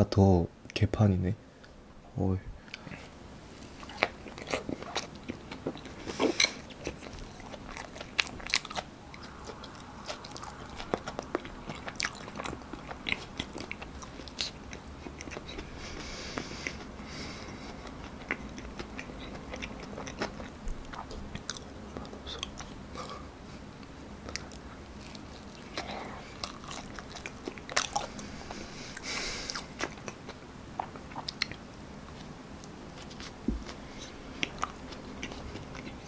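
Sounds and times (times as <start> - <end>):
chewing with wet mouth smacks: 3.7 - 16.9, 17.6 - 23.2, 23.8 - 36.0.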